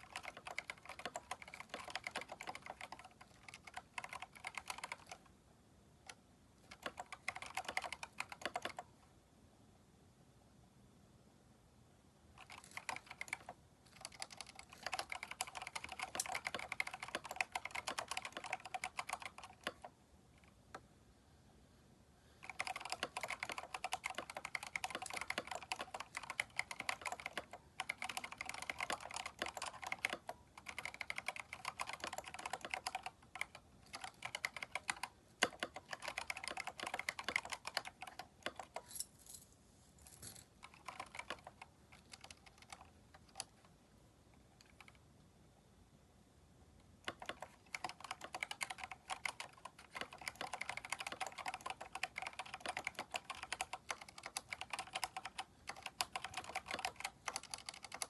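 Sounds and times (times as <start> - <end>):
mechanical keyboard typing: 0.0 - 5.3, 6.0 - 8.9, 12.4 - 20.8, 22.4 - 38.9, 40.5 - 43.7, 44.6 - 45.0, 47.0 - 58.0.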